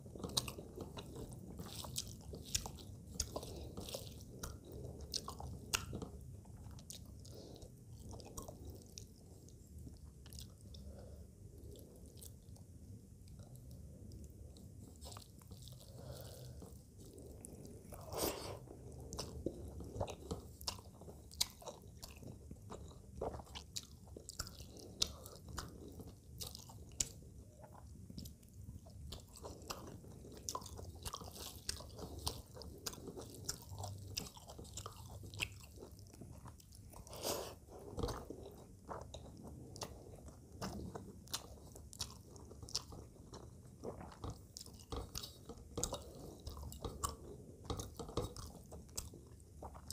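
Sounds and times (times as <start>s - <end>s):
close chewing with smacks: 0.0s - 49.9s.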